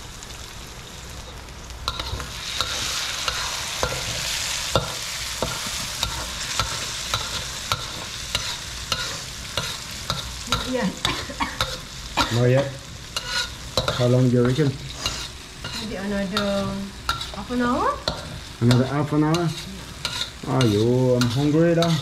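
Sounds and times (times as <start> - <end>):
chili paste sizzling in a wok: 0.0 - 22.0
metal spoon scraping a pan: 1.9 - 22.0.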